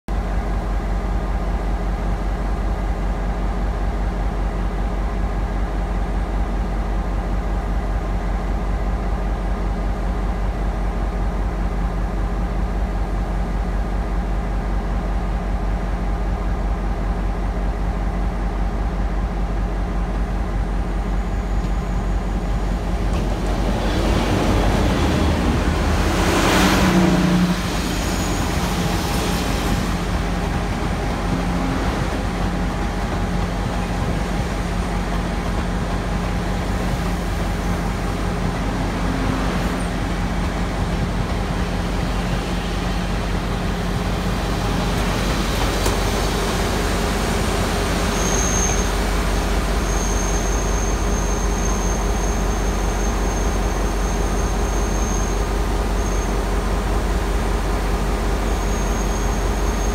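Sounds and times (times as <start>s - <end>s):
diesel locomotive engine hum: 0.1s - 59.9s
train passing with rushing noise: 0.1s - 59.9s
train coaches rolling: 0.2s - 59.9s.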